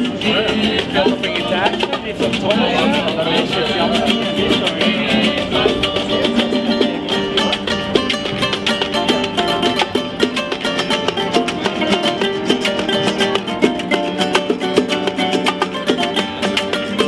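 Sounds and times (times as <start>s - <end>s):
acoustic guitars strumming: 0.0s - 17.0s
bongos and hand percussion: 0.0s - 17.0s.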